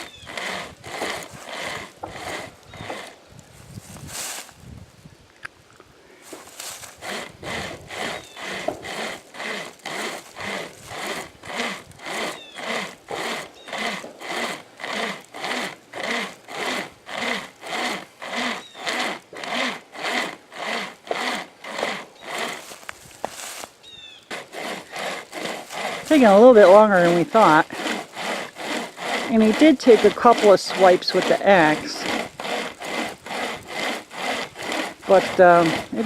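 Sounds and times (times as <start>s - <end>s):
hand chainsaw rasping through wood: 0.0s - 4.5s, 6.2s - 36.0s.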